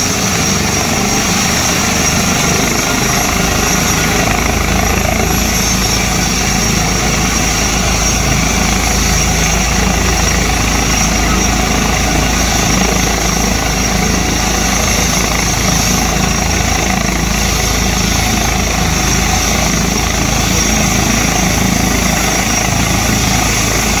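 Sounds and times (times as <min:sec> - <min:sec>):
helicopter turbine and rotor: 0:00.0 - 0:24.0.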